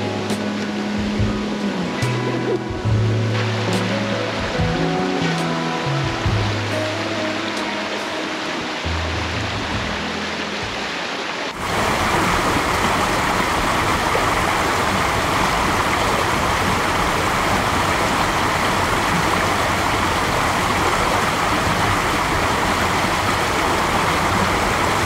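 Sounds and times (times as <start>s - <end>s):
waterfall cascading over rocks: 0.0s - 25.0s.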